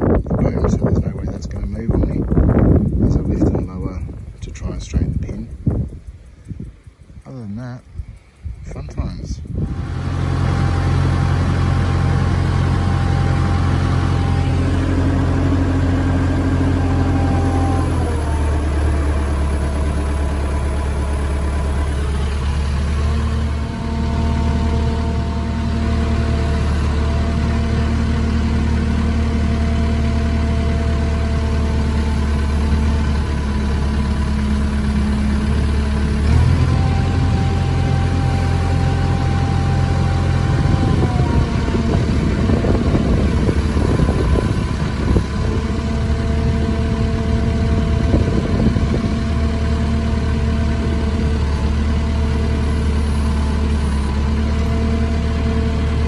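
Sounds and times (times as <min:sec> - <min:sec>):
diesel engine running: 0:00.0 - 0:07.8, 0:08.7 - 0:56.0
hydraulics working: 0:08.7 - 0:56.0.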